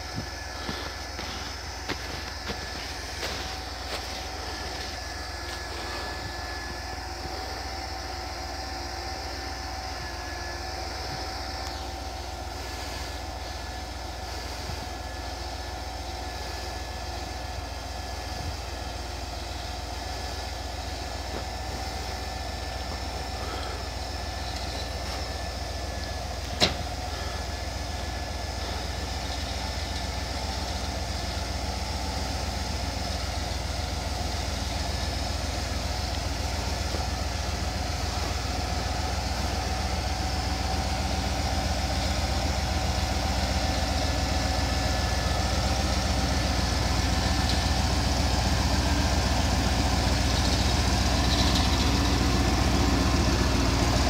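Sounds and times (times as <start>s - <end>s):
truck engine at low revs: 0.0s - 54.0s.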